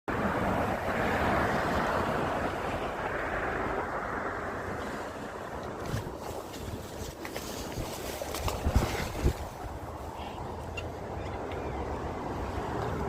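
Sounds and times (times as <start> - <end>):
water rushing through a culvert: 0.1 - 13.0.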